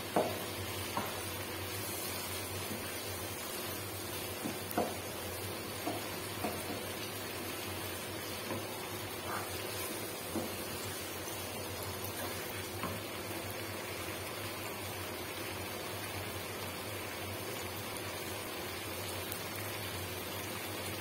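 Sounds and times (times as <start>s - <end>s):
vegetables sizzling in a wok: 0.0s - 21.0s.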